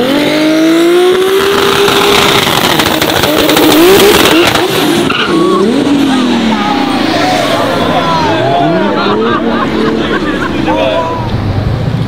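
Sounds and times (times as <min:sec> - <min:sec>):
sports car engine accelerating: 0:00.0 - 0:12.0.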